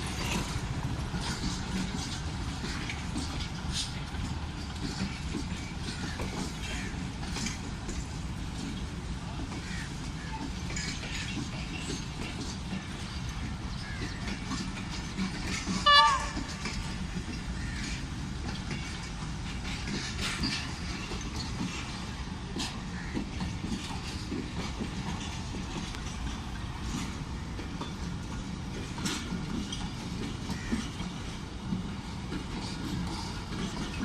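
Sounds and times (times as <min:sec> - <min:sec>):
train wheels rumbling on rails: 0:00.0 - 0:34.0
wheels clacking over rail joints: 0:00.0 - 0:34.0.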